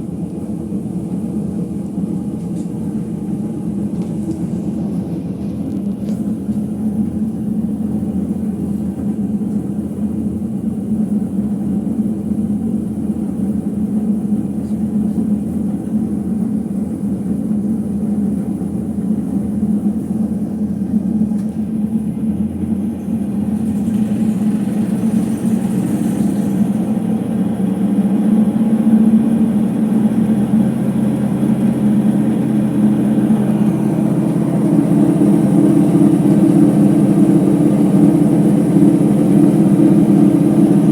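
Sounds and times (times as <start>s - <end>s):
washing machine spin rumble: 0.0s - 40.9s.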